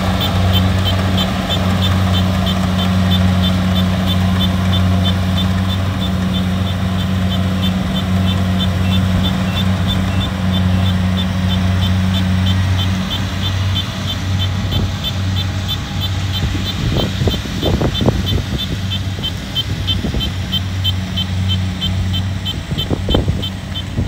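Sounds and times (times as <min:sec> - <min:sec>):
combine harvester engine humming: 0:00.0 - 0:24.0
rapid high ticking: 0:00.0 - 0:24.0.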